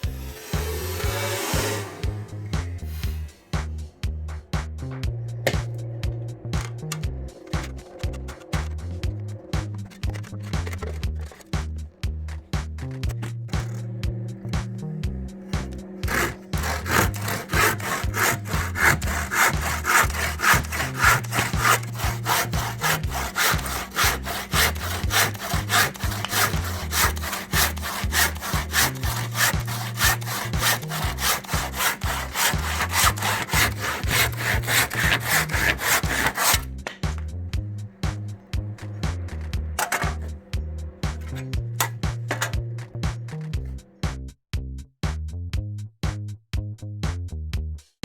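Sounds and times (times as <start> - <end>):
hand saw cutting wood: 0.0 - 3.8, 5.4 - 5.9, 6.5 - 37.3, 38.0 - 43.6
light background music: 0.0 - 44.2.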